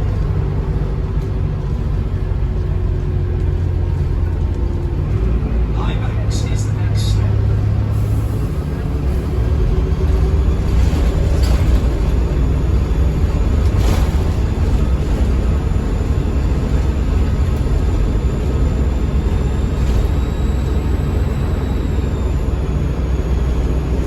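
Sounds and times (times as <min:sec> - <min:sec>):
bus diesel engine drone: 0:00.0 - 0:24.0.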